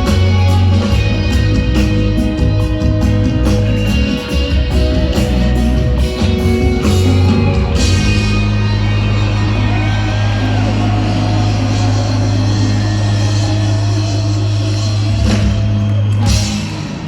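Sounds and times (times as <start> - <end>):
reggae band playing: 0.0 - 17.0.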